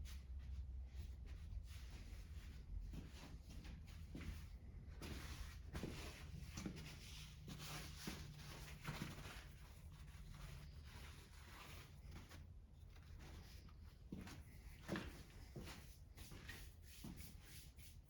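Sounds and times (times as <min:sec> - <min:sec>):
faint rustling and handling: 0:00.0 - 0:18.0.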